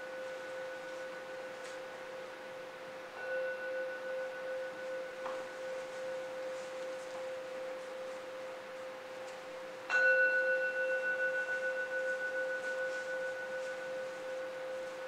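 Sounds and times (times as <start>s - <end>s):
bell-like note ringing: 0.0s - 15.0s.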